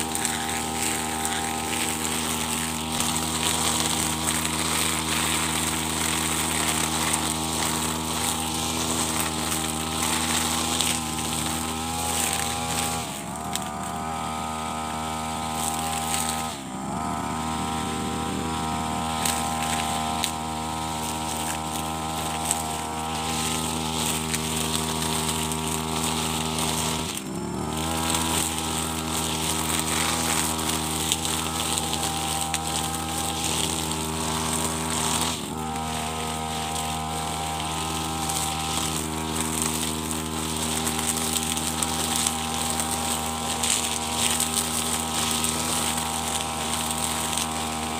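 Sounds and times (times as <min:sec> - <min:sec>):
brush cutter engine revving: 0:00.0 - 0:47.9.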